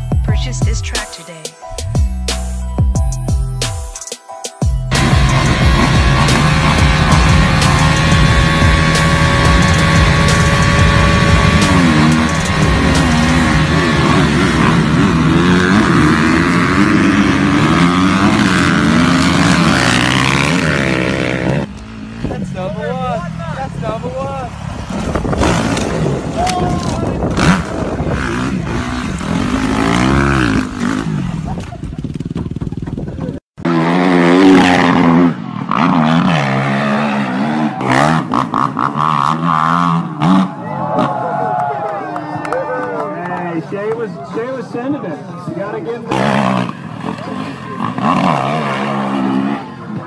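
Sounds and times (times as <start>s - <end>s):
dirt bike engines revving: 4.9s - 41.9s, 43.0s - 50.0s.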